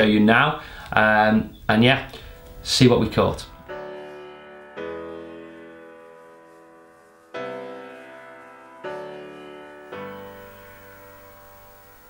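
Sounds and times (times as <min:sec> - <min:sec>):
slow piano chords: 0:01.4 - 0:12.0.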